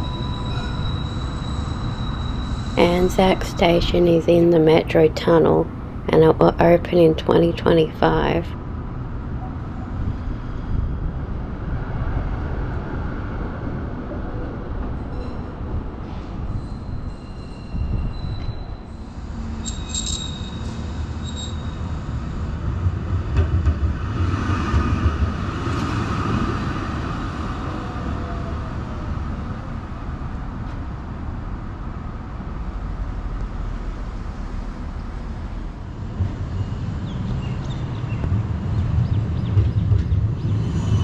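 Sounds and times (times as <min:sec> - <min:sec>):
street noise: 0:00.0 - 0:41.0
tram rumbling past: 0:00.0 - 0:41.0.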